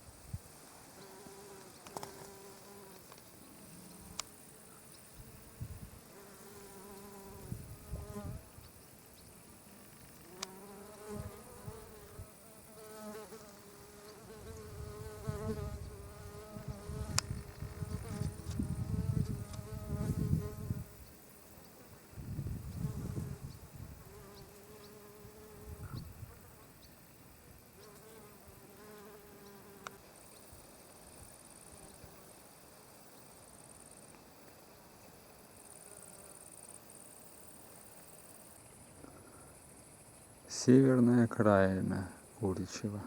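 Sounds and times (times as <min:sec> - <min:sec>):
flying insects buzzing: 0:00.0 - 0:43.0.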